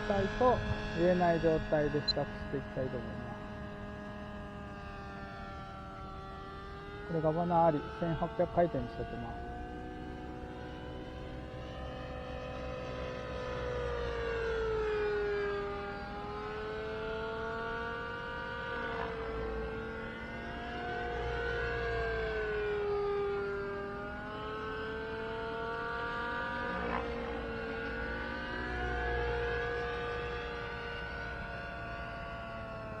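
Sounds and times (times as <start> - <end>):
model helicopter engine and rotor: 0.0 - 33.0.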